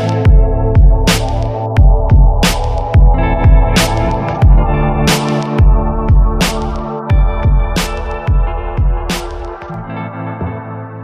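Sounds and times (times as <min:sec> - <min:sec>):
electronic music: 0:00.0 - 0:11.0
held synth chords: 0:00.0 - 0:11.0.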